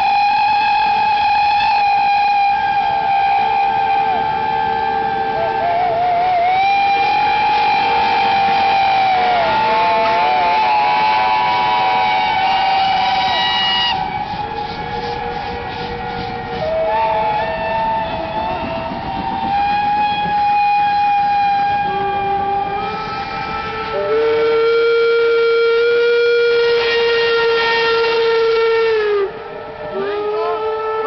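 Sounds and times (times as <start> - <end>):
locomotive whistles: 0.0 - 31.0.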